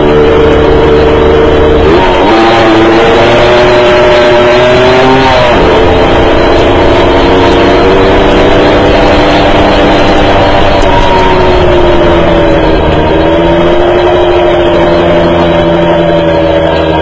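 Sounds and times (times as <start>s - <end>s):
engine revving at high revs: 0.0s - 17.0s.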